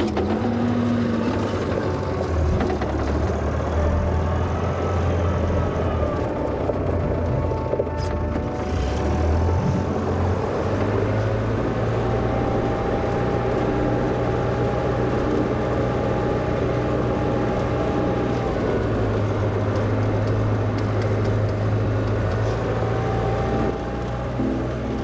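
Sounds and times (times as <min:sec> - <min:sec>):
wheel loader diesel engine droning: 0:00.0 - 0:25.0.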